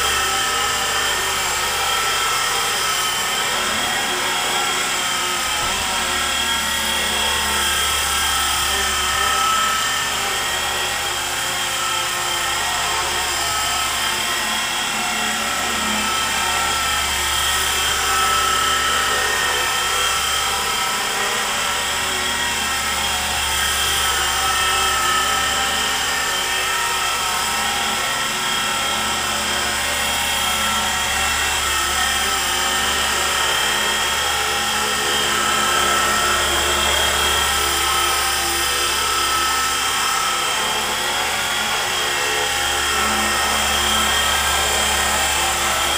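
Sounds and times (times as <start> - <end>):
rc helicopter motor whine: 0.0 - 45.9.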